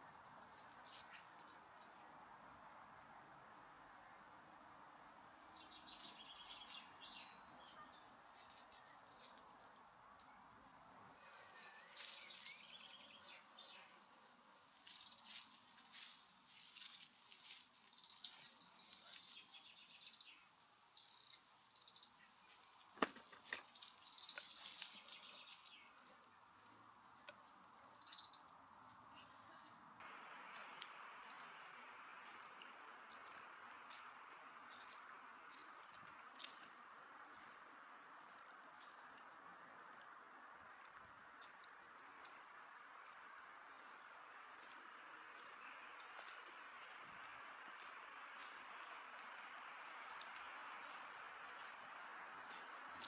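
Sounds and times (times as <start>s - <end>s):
small birds chirping: 5.3s - 53.0s.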